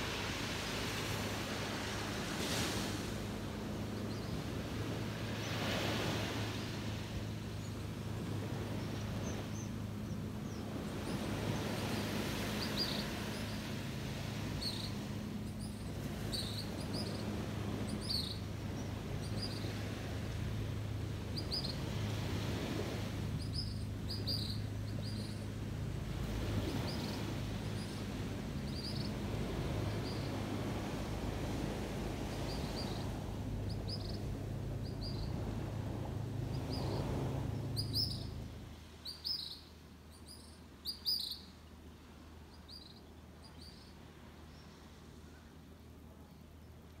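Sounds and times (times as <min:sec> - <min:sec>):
steady low hum: 0:00.0 - 0:47.0
surf washing on a beach: 0:00.0 - 0:47.0
small birds chirping: 0:03.8 - 0:06.8, 0:07.5 - 0:41.7, 0:42.4 - 0:45.6.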